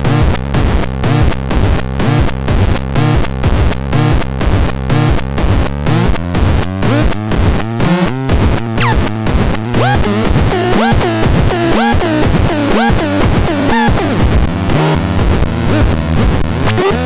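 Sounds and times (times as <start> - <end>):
pulsing synthesizer pattern: 0.0 - 17.0
throbbing synth bass: 0.0 - 17.0.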